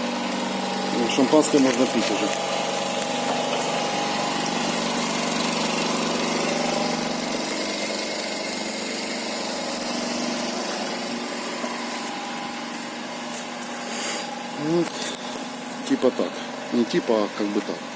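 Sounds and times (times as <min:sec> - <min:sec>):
motor humming with whine: 0:00.0 - 0:17.9.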